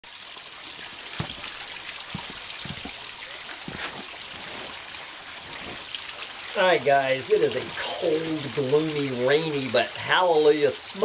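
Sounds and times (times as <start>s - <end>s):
rain falling: 0.0s - 11.0s
drips tapping: 0.7s - 10.2s.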